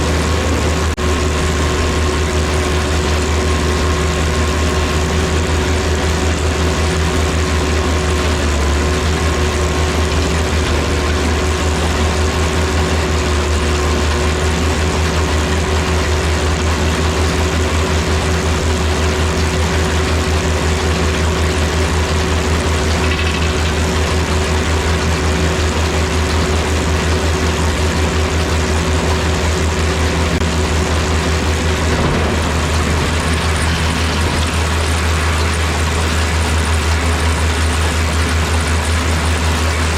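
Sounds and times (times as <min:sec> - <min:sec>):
baler machinery whine: 0:00.0 - 0:39.9
tractor diesel engine droning: 0:00.0 - 0:39.9.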